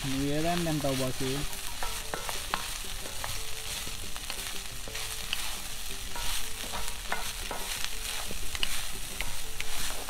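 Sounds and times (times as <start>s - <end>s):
rice sizzling in oil: 0.0s - 10.0s
spatula scraping pan: 1.5s - 10.0s.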